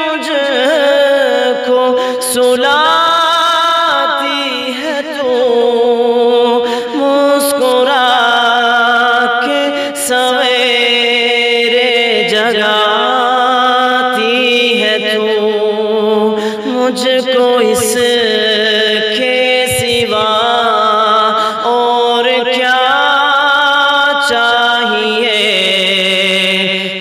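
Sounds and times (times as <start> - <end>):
man singing with vibrato: 0.0 - 27.0.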